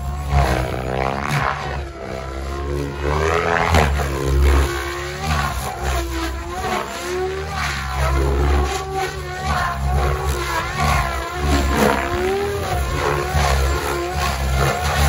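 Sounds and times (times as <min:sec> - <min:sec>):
rc helicopter rotor drone and whine: 0:00.0 - 0:15.0.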